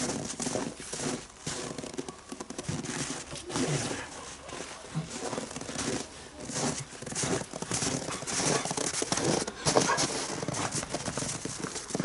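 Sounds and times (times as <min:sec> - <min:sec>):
paws pattering on ground: 0:00.0 - 0:12.0.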